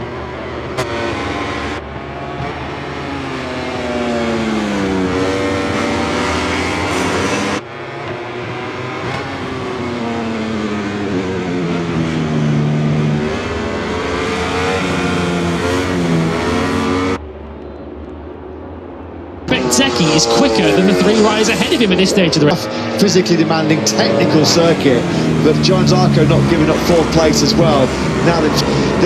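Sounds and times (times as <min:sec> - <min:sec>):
racing motorcycle engine: 0:00.0 - 0:29.0.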